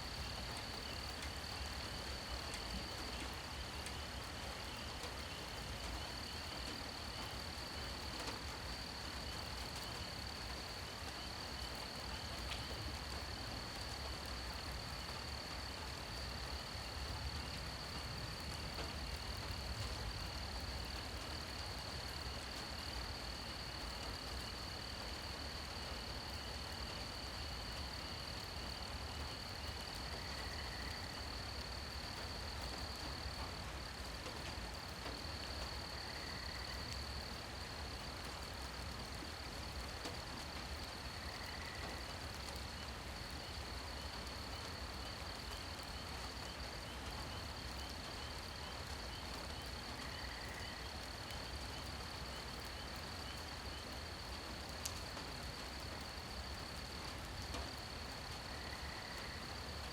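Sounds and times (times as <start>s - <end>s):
insects trilling: 0.0s - 59.9s
light rain hiss: 0.0s - 59.9s.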